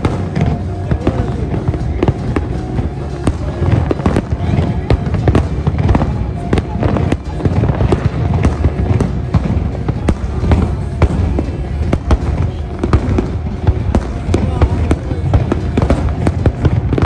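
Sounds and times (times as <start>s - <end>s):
deep rumble: 0.0s - 17.0s
fireworks banging: 0.0s - 17.0s
music playing: 0.0s - 17.0s.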